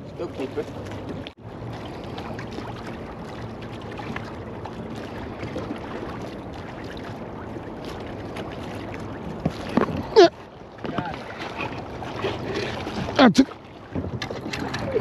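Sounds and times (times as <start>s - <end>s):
water lapping against hull: 0.0s - 15.0s
small water slaps: 0.3s - 15.0s.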